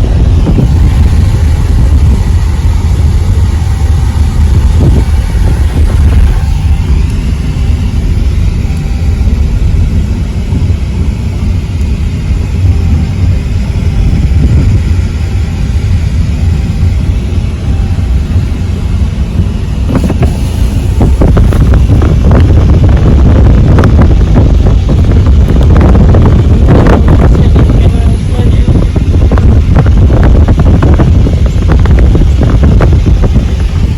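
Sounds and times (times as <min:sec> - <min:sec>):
wind buffeting the microphone: 0:00.0 - 0:33.9.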